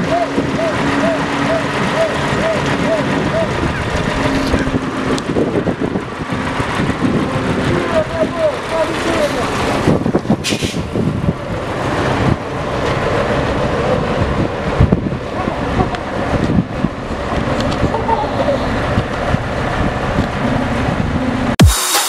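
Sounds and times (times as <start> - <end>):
truck diesel engine: 0.0 - 21.6.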